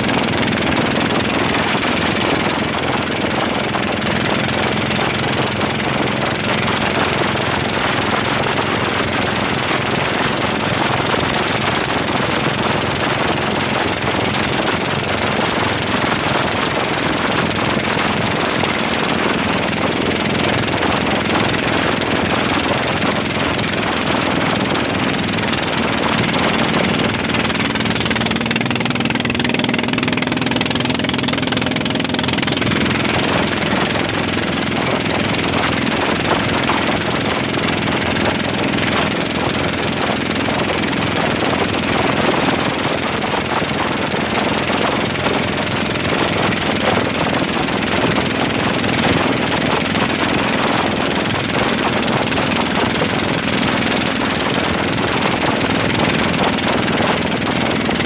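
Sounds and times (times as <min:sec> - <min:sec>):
boat engine running flat out: 0:00.0 - 0:58.0
water rushing along hull: 0:00.0 - 0:58.0.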